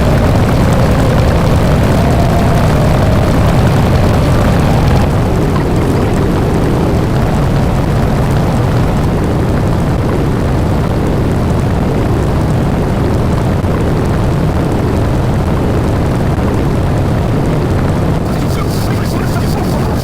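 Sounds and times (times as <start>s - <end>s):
loud steady rumbling: 0.0s - 20.0s.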